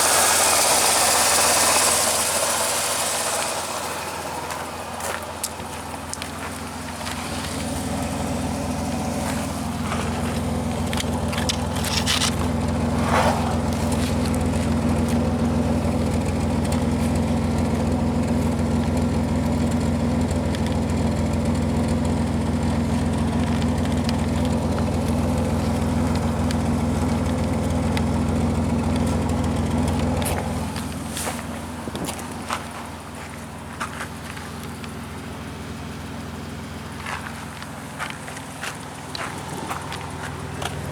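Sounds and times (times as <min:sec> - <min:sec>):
car engine running with intake noise: 0:00.0 - 0:40.9.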